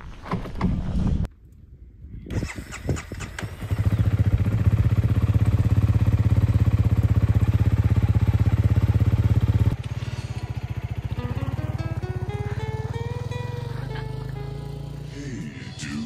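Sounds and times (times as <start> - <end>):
motorcycle engine starting and idling: 2.3 - 15.3.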